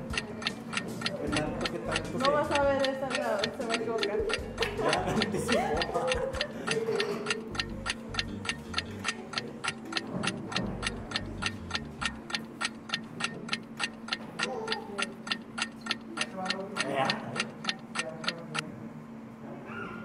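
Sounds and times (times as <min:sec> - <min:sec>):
clock ticking: 0:00.0 - 0:18.6.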